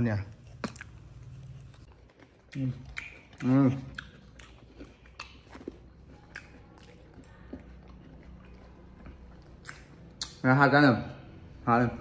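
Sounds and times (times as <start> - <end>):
monkey chewing with wet clicks: 0.4 - 10.4.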